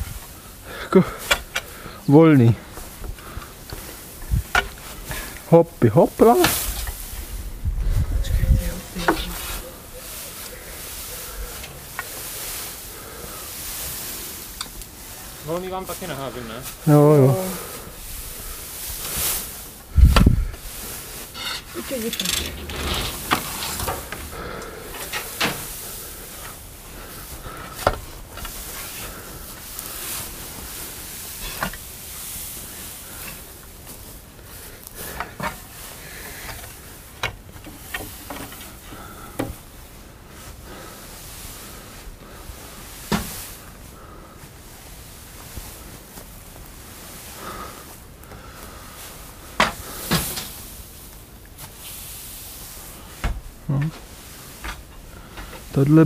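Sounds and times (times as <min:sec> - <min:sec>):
faint background noise: 0:00.0 - 0:56.0
hay rustling: 0:01.2 - 0:56.0.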